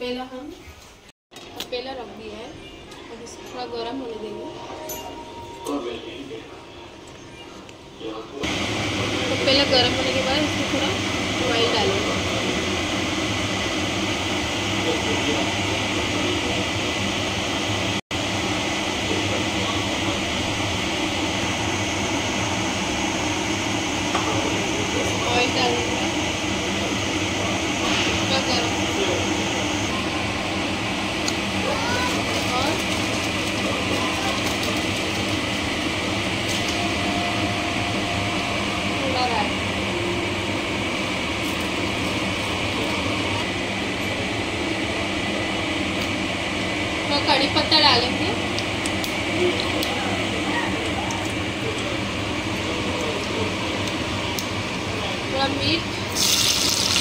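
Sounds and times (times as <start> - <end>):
mechanical whirring hum: 0.0 - 57.0.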